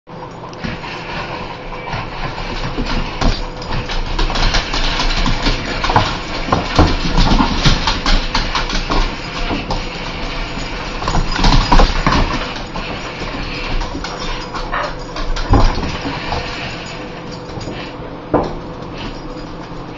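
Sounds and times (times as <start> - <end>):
scratching and clicking: 0.5 - 18.0
dog growling and snarling: 0.6 - 16.9.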